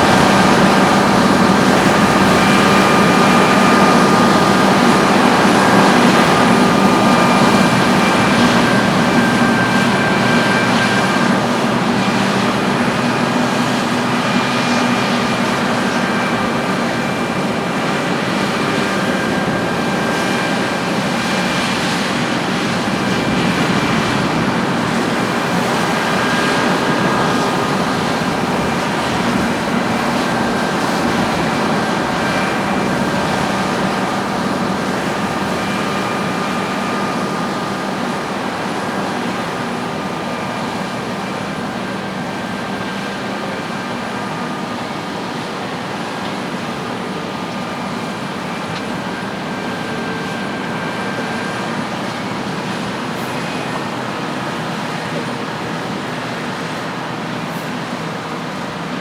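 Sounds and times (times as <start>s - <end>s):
harvest machinery running: 0.0s - 59.0s.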